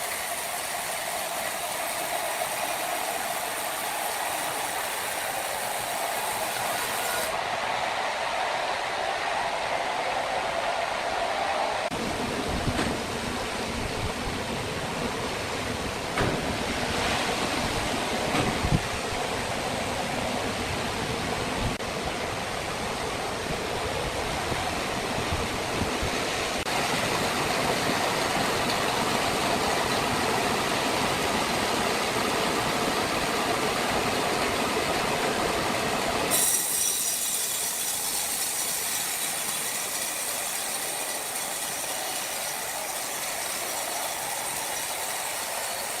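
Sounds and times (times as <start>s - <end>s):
high hiss with steady tones: 0.0s - 46.0s
sawmill machinery running: 0.0s - 46.0s.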